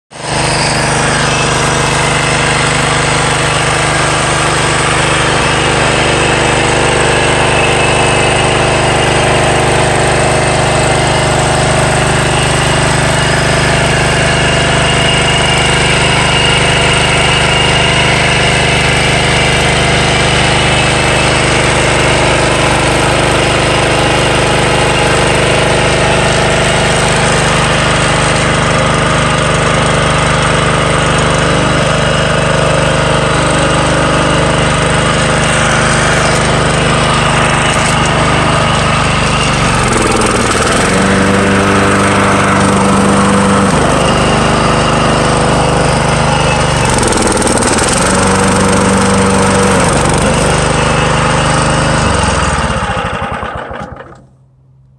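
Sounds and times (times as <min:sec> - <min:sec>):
lawn mower engine running: 0:00.1 - 0:54.9.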